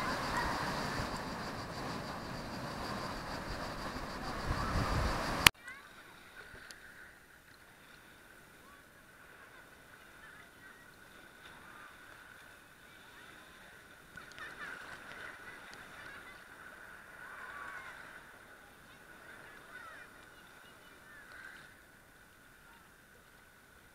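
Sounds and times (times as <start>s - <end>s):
sea water sloshing and bubbling: 0.0s - 23.9s
waves washing over: 0.0s - 23.9s.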